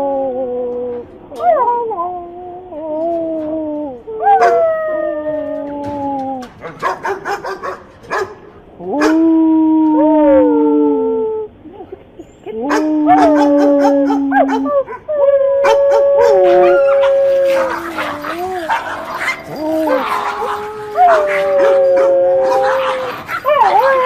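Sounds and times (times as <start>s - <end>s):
dogs howling: 2.6s - 24.0s.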